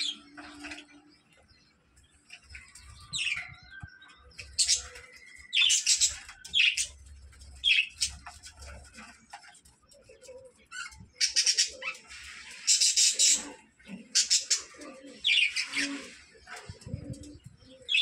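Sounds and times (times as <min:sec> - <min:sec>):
budgerigars chirping and squawking: 0:00.0 - 0:01.5, 0:02.2 - 0:18.0.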